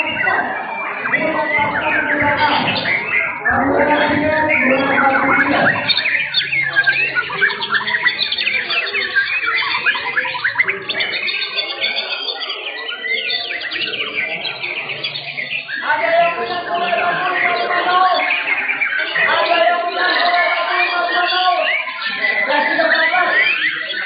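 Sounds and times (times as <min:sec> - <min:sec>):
songbirds chirping and whistling: 0:00.0 - 0:24.0.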